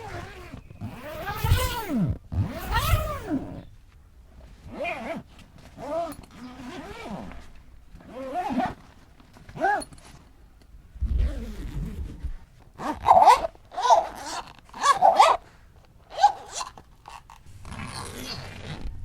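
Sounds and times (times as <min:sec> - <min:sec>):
zipper pulled buzzing rasp: 0:00.0 - 0:03.7, 0:04.6 - 0:10.2, 0:11.0 - 0:15.4, 0:16.0 - 0:19.0.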